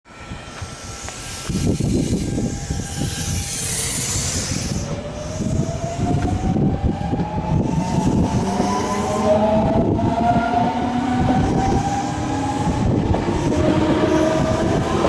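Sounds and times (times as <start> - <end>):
train wheels rumbling on rails: 0.3 - 15.0.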